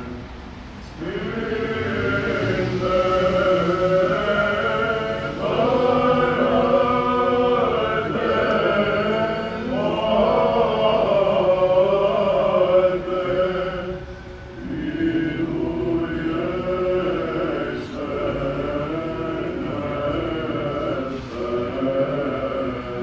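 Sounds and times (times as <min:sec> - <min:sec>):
choir chanting a cappella: 0:00.0 - 0:23.0.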